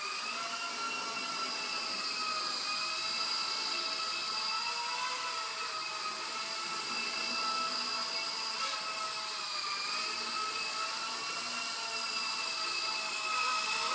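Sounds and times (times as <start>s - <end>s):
toy helicopter rotor whine: 0.0s - 13.9s.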